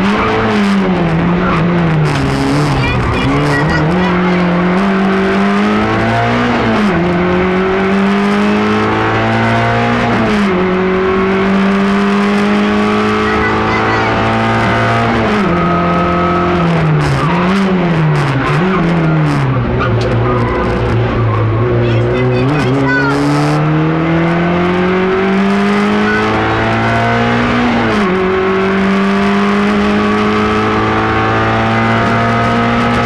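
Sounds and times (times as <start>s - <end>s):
car engine revving inside cabin: 0.0s - 33.0s.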